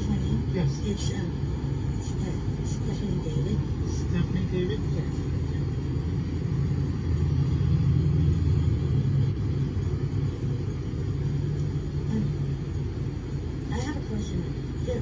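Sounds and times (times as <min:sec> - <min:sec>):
van engine and road noise: 0:00.0 - 0:15.0.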